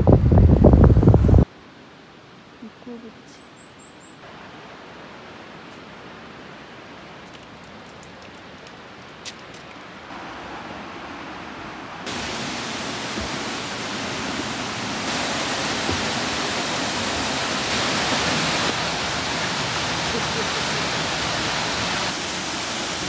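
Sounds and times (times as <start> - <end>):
waterfall rushing into pool: 4.2 - 23.0.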